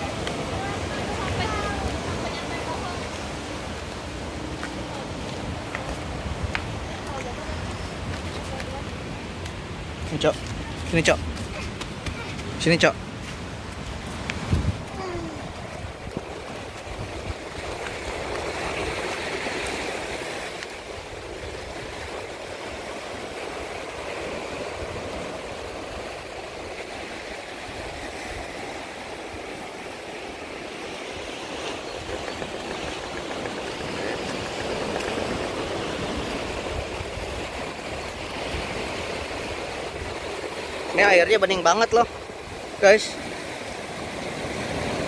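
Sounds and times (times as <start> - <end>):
sea water surging among rocks: 0.0 - 45.0.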